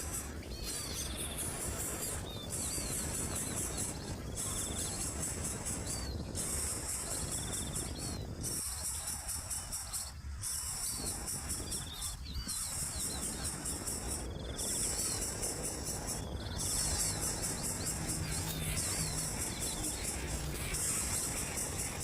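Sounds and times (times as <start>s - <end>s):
insects shrill chorus: 0.0s - 22.0s.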